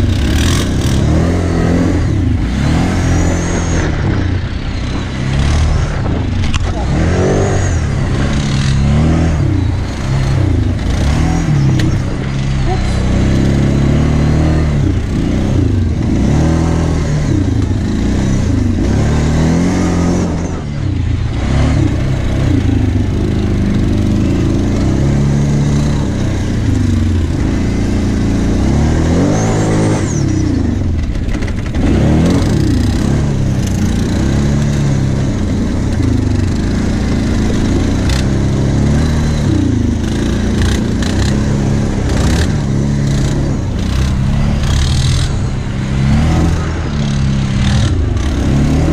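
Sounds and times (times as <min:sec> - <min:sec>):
quad engine revving: 0:00.0 - 0:48.9.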